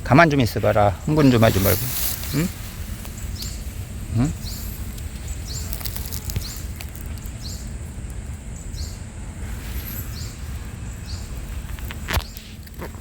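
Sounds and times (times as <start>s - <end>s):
small bird calling: 0.0s - 12.6s.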